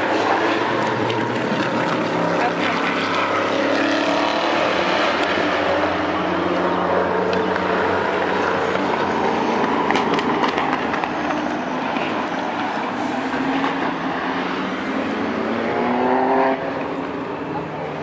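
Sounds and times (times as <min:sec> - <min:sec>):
race car engines running: 0:00.0 - 0:18.0.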